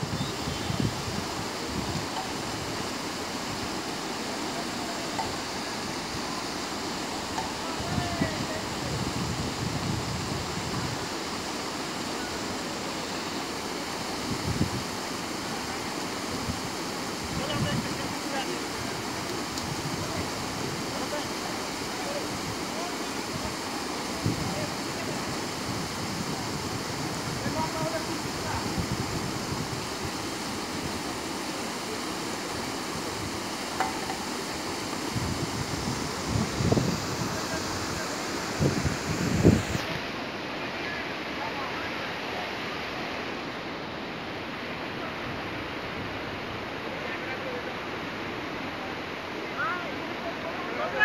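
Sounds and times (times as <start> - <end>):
river water rushing over boulders: 0.0 - 51.0.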